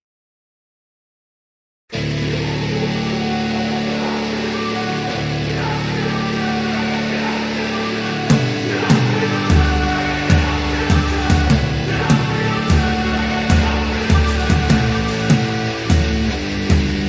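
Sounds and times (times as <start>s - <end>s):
sustained music chords: 2.0s - 17.0s.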